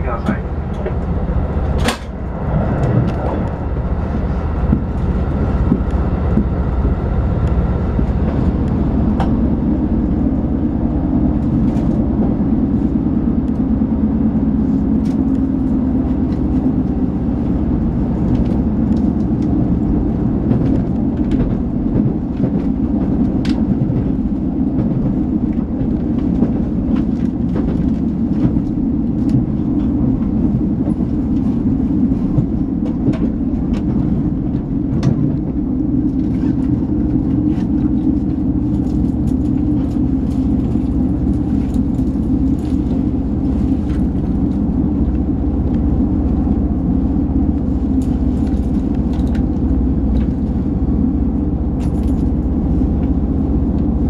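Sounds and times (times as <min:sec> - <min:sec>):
train engine and wheels rumbling: 0:00.0 - 0:54.0.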